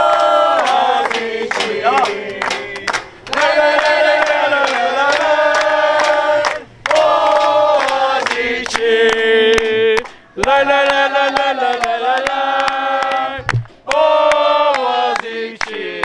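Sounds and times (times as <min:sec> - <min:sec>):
football supporters singing a chant: 0:00.0 - 0:16.0
hand claps: 0:00.0 - 0:16.0.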